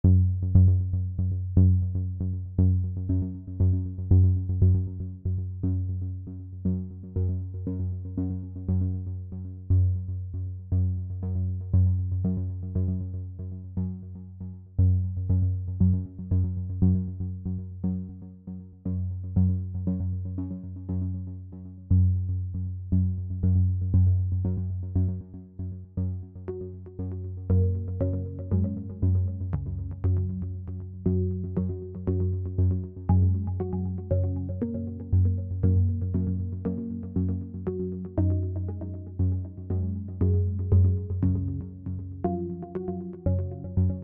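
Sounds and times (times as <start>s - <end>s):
deep bass: 0.0s - 44.0s.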